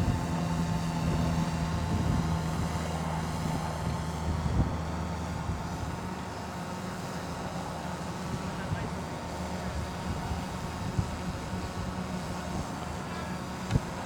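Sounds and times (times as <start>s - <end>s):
model airplane engine droning: 0.0s - 14.0s.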